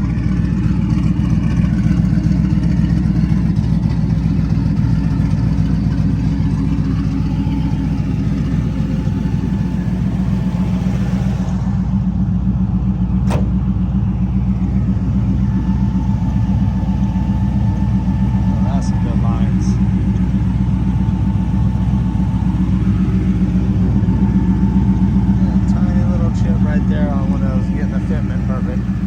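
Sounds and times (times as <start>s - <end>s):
car engine running steadily: 0.0s - 29.0s.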